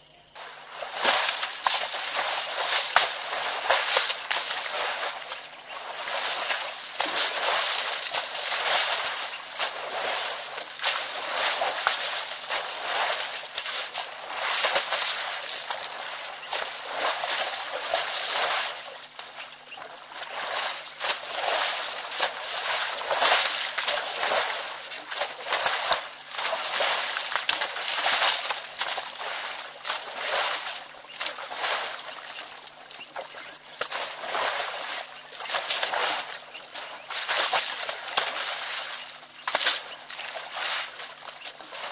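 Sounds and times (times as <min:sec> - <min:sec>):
mud and water sloshing: 0:00.0 - 0:41.9.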